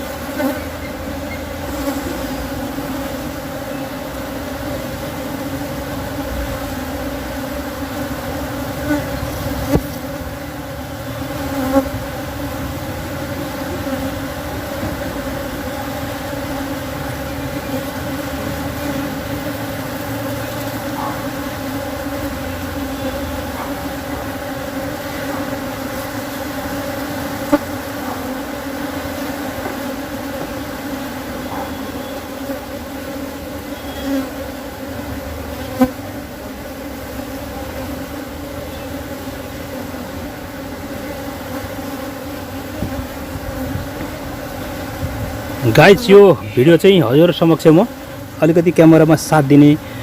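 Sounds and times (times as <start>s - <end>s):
bees buzzing: 0.0s - 50.0s.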